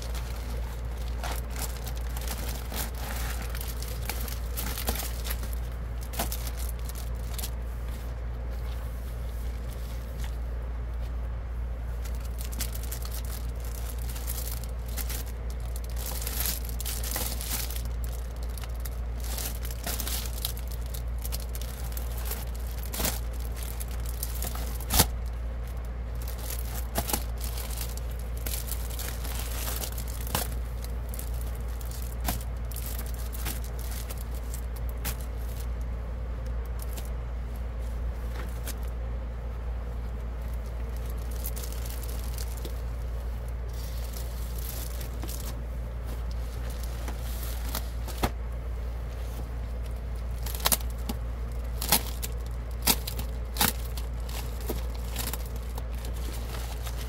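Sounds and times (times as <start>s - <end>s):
plastic packaging crinkling: 0.0s - 7.9s, 11.9s - 38.9s, 40.1s - 48.4s, 49.2s - 57.0s
steady low rumble: 0.0s - 57.0s.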